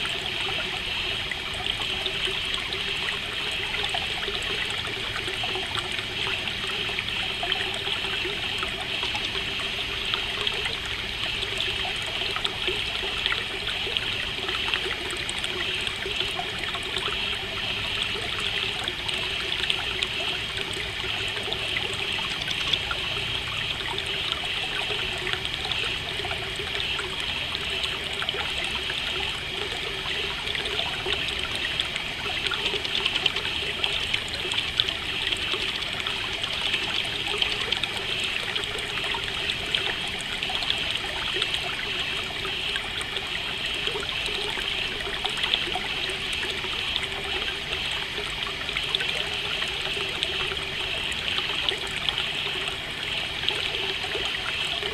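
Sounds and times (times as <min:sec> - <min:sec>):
stream trickling over stones: 0:00.0 - 0:54.9.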